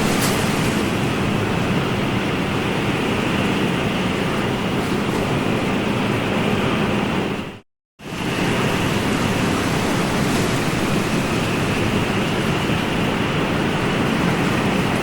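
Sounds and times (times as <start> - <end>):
ocean waves and surf: 0.0 - 7.3, 8.0 - 15.0.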